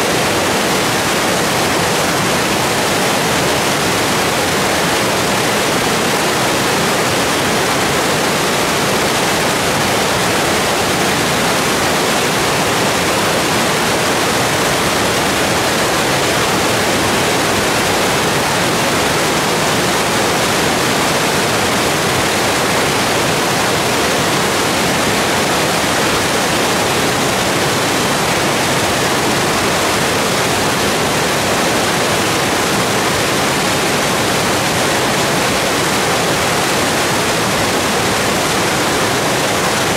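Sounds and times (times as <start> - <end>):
river rushing through rapids: 0.0 - 39.9.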